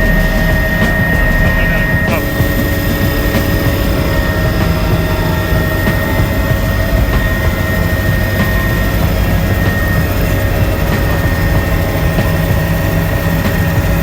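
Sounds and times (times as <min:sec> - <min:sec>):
helicopter turbine and rotor noise: 0:00.0 - 0:14.0.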